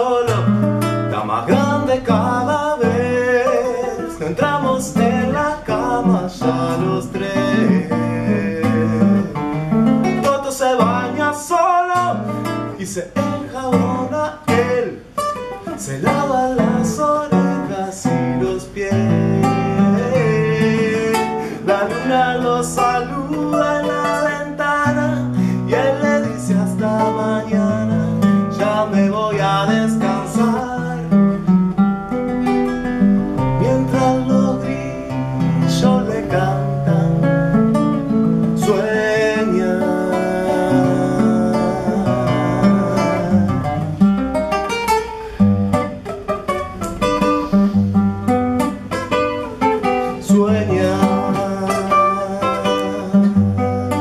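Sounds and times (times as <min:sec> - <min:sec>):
classical guitar playing: 0:00.0 - 0:54.0.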